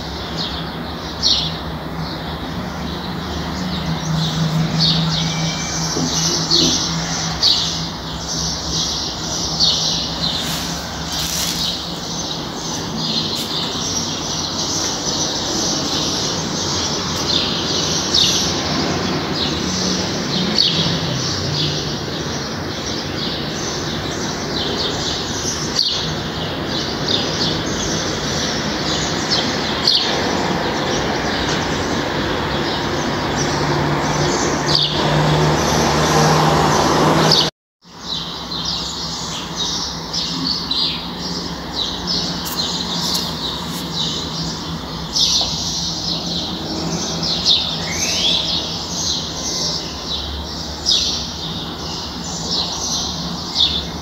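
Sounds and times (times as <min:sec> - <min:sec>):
small birds chirping: 0:00.0 - 0:36.3, 0:37.3 - 0:54.0.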